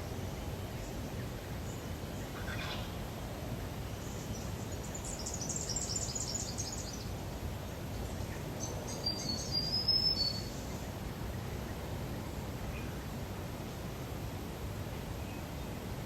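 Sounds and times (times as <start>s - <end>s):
low outdoor background noise: 0.0s - 16.0s.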